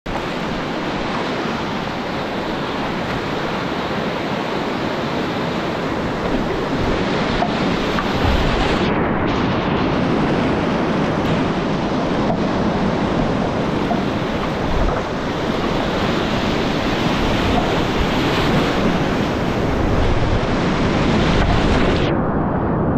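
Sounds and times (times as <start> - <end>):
river rapids rushing: 0.1 - 22.1.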